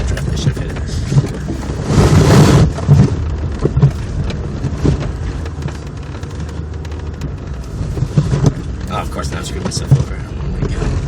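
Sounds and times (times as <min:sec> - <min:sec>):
clicks and crackles: 0:00.0 - 0:10.8
small car engine under load: 0:00.0 - 0:11.0.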